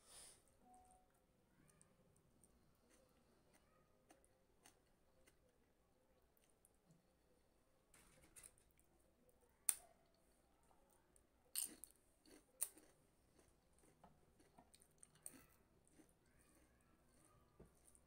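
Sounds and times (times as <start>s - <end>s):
faint chewing: 0.8s - 7.3s, 7.9s - 18.0s.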